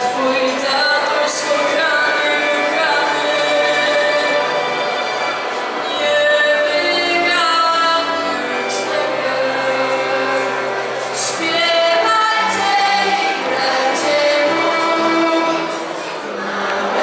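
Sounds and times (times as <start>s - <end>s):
choir singing a carol: 0.0s - 17.0s.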